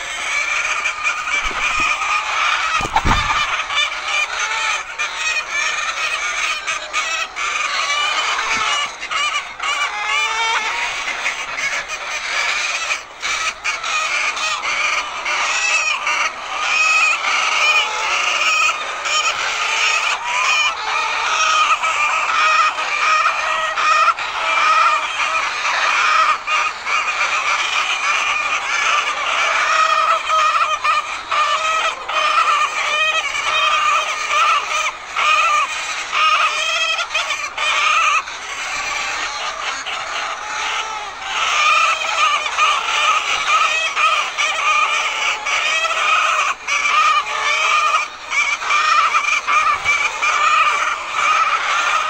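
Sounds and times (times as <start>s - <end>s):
hens clucking and calling: 0.0s - 52.0s.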